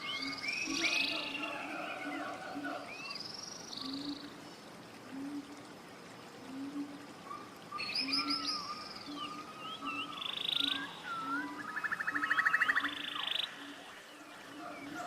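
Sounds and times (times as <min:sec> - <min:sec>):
birds singing and trilling: 0:00.0 - 0:04.4, 0:07.2 - 0:15.0.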